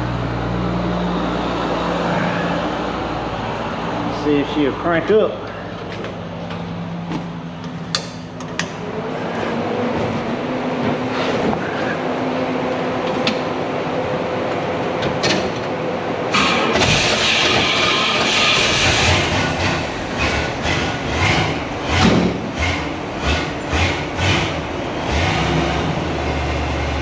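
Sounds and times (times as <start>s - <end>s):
truck engine starting and running: 0.0s - 27.0s.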